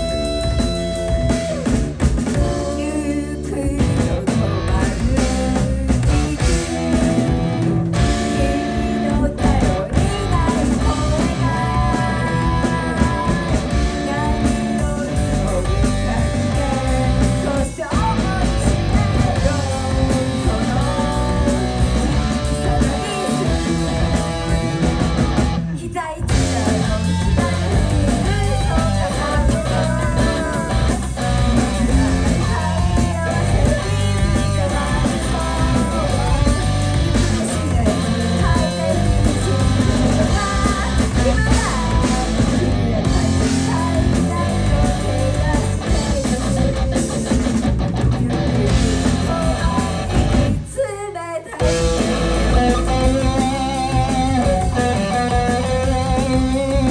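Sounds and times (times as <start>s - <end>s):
drums: 0.0s - 56.9s
electric guitar: 0.0s - 56.9s
person singing: 0.0s - 56.9s.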